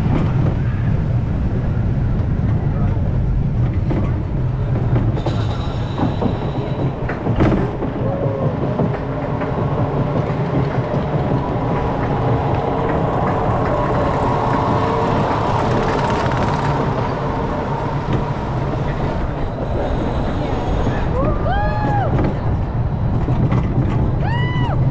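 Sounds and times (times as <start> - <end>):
coaster wheels rumbling on track: 0.0 - 24.9
roller coaster chain lift clatter: 2.3 - 24.7.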